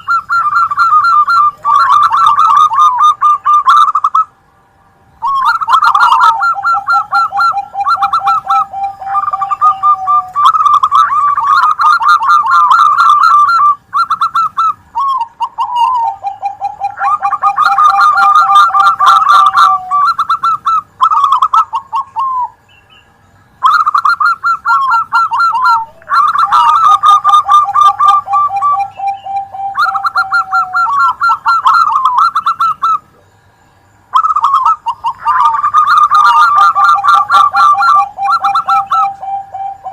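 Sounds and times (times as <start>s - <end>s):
doves cooing: 0.0s - 4.4s, 5.2s - 39.9s.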